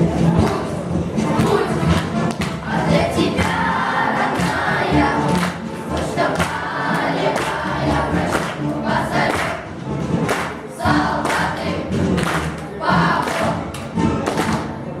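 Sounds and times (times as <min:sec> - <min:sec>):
choir singing a marching song: 0:00.0 - 0:14.7
musical accompaniment: 0:00.0 - 0:15.0.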